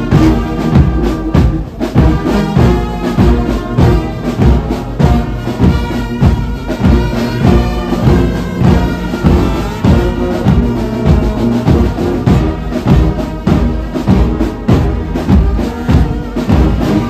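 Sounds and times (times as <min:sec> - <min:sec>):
brass band horns and tubas: 0:00.0 - 0:17.0
steady drum beat: 0:00.0 - 0:17.0.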